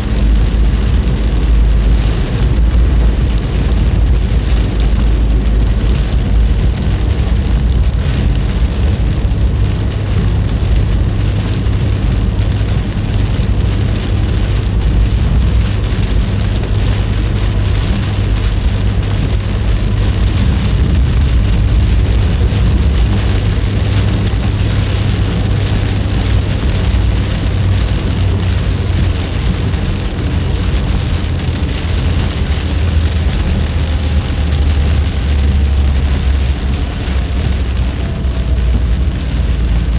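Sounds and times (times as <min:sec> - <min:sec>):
heavy rain on car: 0:00.0 - 0:39.9
tyres and engine on wet road: 0:00.0 - 0:39.9.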